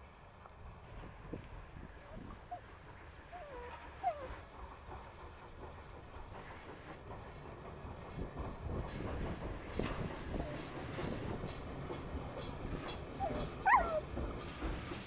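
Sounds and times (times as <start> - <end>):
train wheels rumbling on bridge: 0.0 - 15.0.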